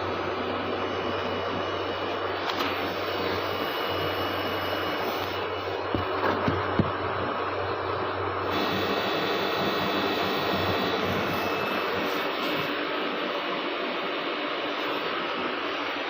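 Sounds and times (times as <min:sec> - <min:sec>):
air conditioner fan rushing: 0:00.0 - 0:16.0.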